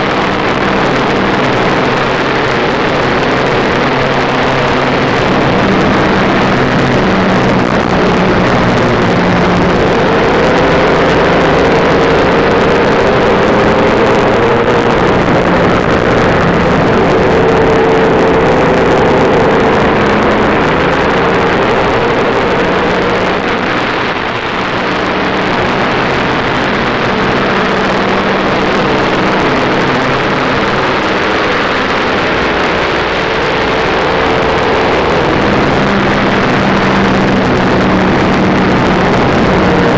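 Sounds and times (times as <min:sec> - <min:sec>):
race car engine running hard: 0:00.0 - 0:39.9
wind and road noise: 0:00.0 - 0:39.9.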